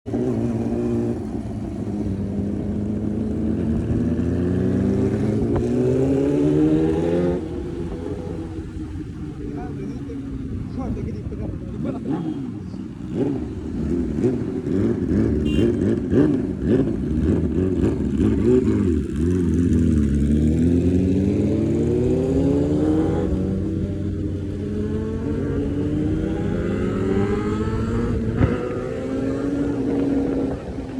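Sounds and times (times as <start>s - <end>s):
motorcycle engine revving: 0.1s - 30.9s.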